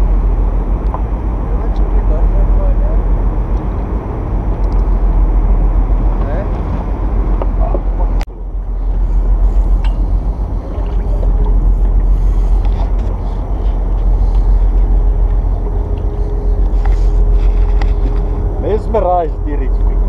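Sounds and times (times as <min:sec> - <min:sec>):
boat engine rumble: 0:00.0 - 0:20.0
faint steady hum: 0:00.0 - 0:20.0.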